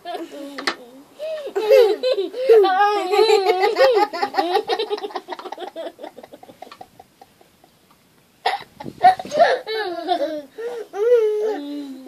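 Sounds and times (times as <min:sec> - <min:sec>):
young children giggling: 0:00.0 - 0:07.8, 0:08.4 - 0:11.9.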